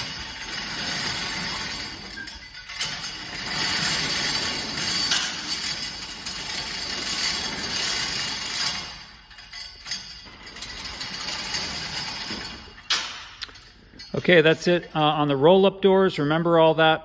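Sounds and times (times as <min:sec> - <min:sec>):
hoist chain rattling: 0:00.0 - 0:15.2.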